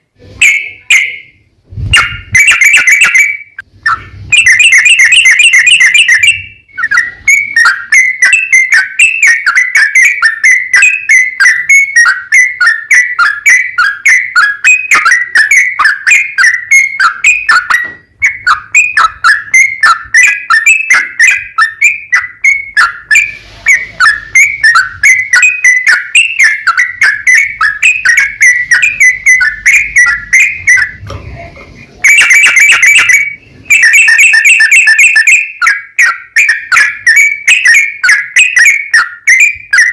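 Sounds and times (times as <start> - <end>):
bulbul singing whistled notes: 0.2 - 31.1, 31.9 - 39.9.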